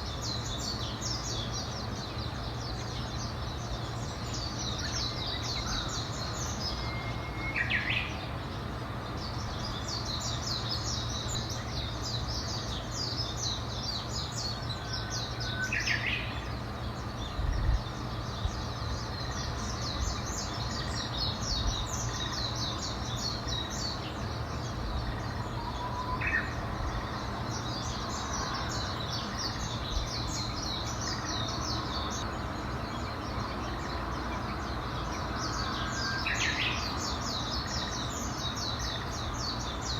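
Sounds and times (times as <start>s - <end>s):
birds chirping trills: 0.0s - 39.9s.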